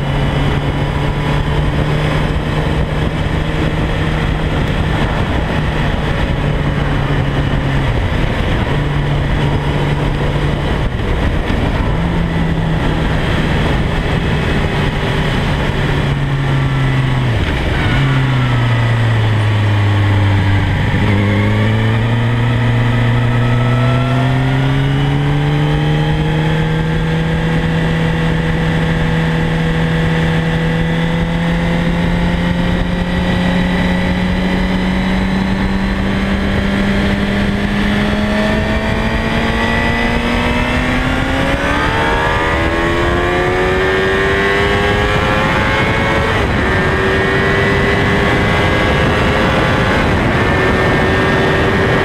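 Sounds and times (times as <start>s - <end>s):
motorcycle engine droning: 0.0s - 52.0s
wind rushing over camera: 0.0s - 52.0s.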